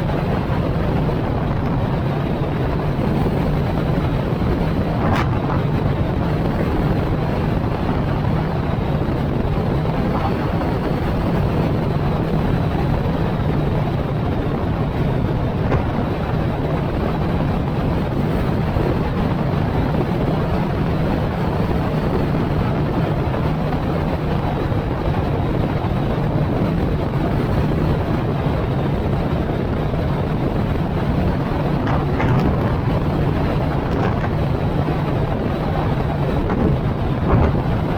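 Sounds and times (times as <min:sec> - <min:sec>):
car road and engine noise: 0:00.0 - 0:37.9
wind noise on microphone: 0:00.0 - 0:37.9.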